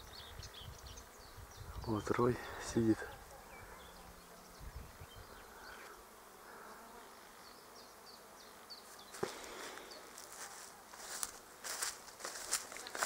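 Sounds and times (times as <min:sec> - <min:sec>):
bee swarm buzzing: 0:00.1 - 0:13.0.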